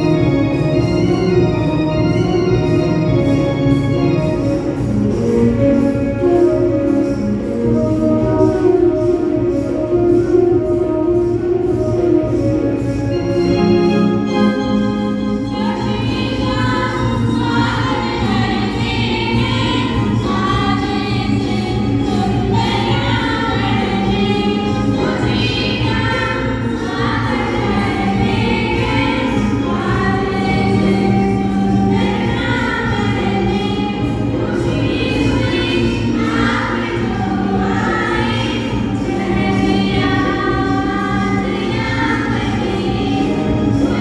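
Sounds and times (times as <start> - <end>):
girls singing into microphones: 0.0 - 44.0
sustained instrumental accompaniment: 0.0 - 44.0.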